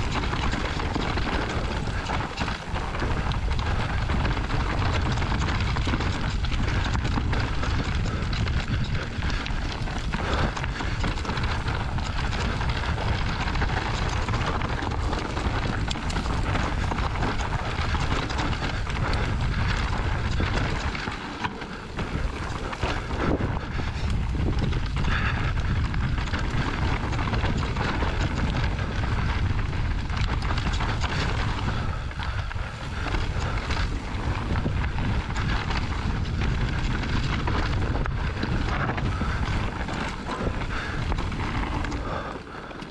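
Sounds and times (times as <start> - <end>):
bike rattling: 0.0 - 42.9
tyres crunching over stones: 0.0 - 42.9
wind rushing over microphone: 0.0 - 42.9.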